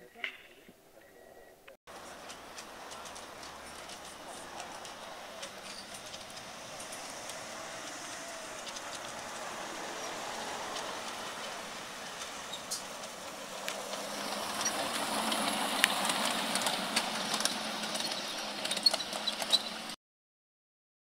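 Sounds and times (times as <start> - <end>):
miniature train rolling on track: 1.9 - 20.0
train wheels clicking: 1.9 - 20.0.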